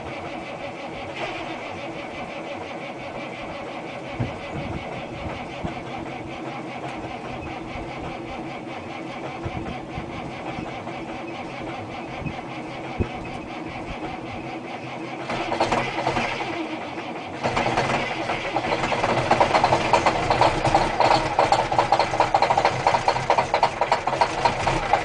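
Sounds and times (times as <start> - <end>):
diesel truck engine starting: 0.0 - 25.0
steady engine running: 0.0 - 25.0.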